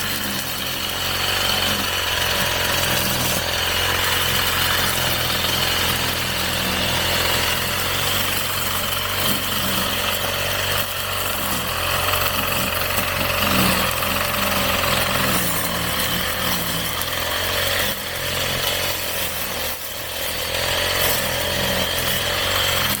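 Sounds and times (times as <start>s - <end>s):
brush cutter engine cutting grass: 0.0s - 23.0s.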